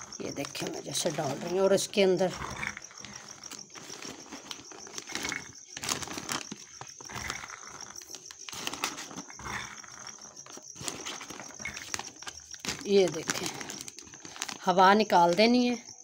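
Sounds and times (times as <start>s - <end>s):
peas rattling in plastic bag: 0.0s - 9.6s, 10.4s - 16.0s.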